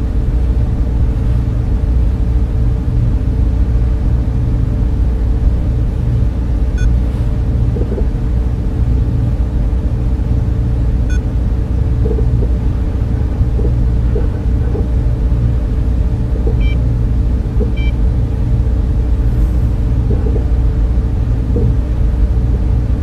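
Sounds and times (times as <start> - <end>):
cooling fans humming: 0.0 - 23.0.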